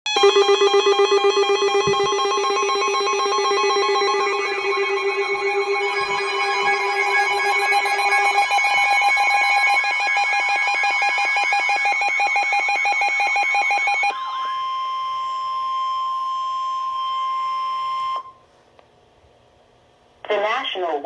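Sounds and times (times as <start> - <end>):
electronic alert tones warbling: 0.1 - 18.3.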